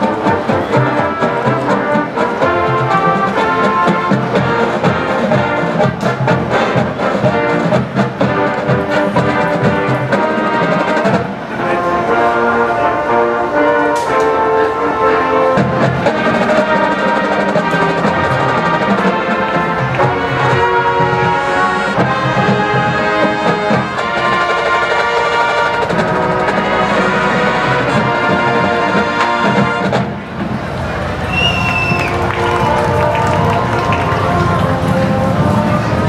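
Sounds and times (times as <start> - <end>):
drums: 0.0 - 11.7, 15.3 - 36.0
brass playing sustained chords: 0.0 - 31.2, 32.1 - 36.0.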